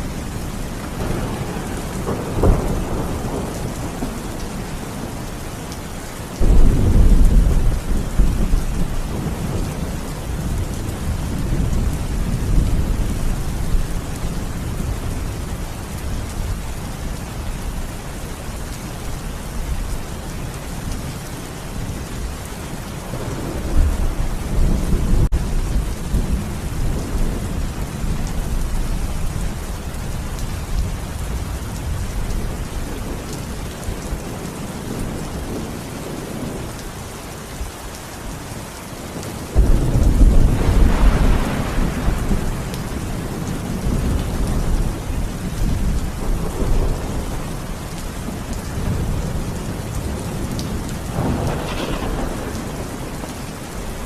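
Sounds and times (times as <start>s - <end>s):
thunder rumbling: 0.0s - 5.4s, 6.4s - 16.6s, 21.8s - 36.7s, 39.5s - 54.0s
steady rain: 0.0s - 54.0s.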